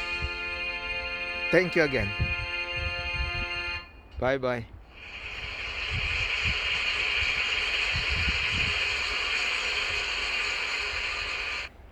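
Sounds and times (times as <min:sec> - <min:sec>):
steady hiss: 0:00.0 - 0:03.9, 0:04.8 - 0:11.9.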